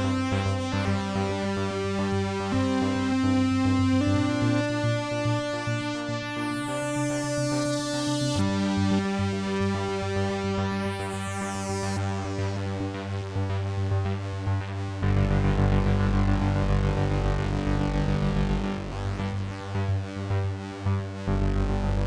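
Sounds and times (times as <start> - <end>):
synthesizer chords and arpeggio: 0.0 - 22.0.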